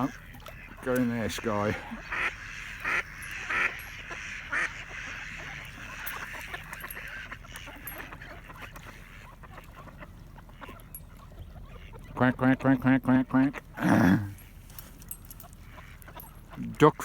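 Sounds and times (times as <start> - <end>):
ducks quacking: 0.0 - 14.1, 15.4 - 17.0
chatter of bird calls: 0.0 - 17.0.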